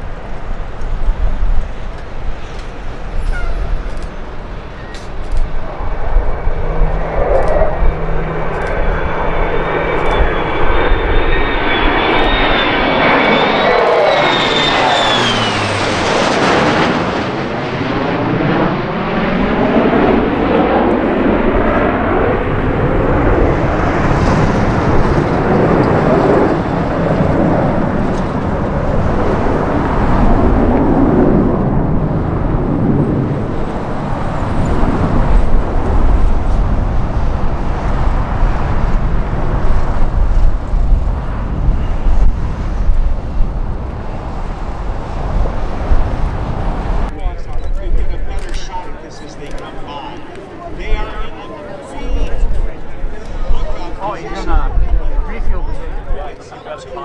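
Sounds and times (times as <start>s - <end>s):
aircraft passing overhead: 0.0s - 57.0s.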